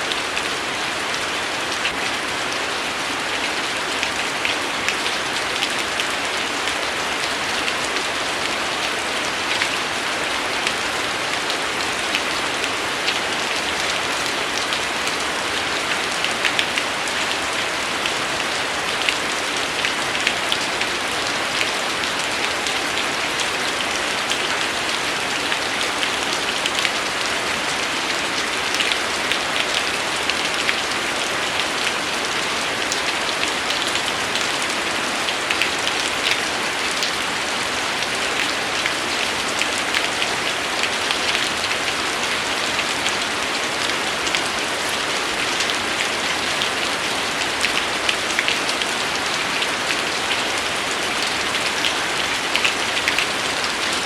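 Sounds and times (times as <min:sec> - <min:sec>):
steady rain falling: 0:00.0 - 0:54.0
raindrops ticking on surface: 0:01.8 - 0:54.0.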